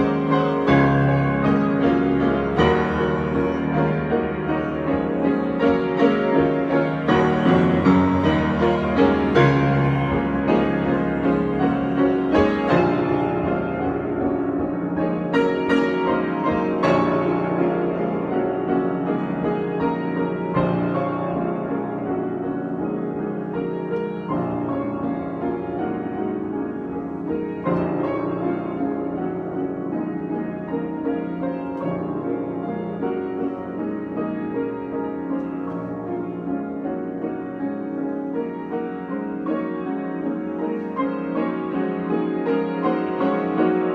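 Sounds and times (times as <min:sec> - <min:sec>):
slow piano chords: 0:00.0 - 0:43.9.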